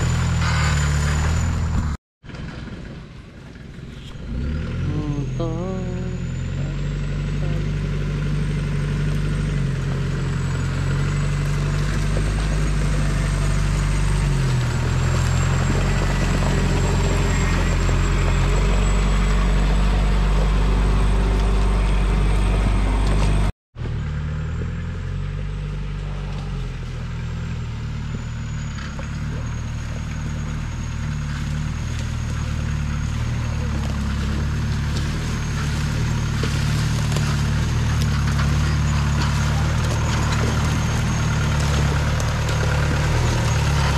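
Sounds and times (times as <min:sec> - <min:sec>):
jeep engine running at low revs: 0:00.0 - 0:43.9.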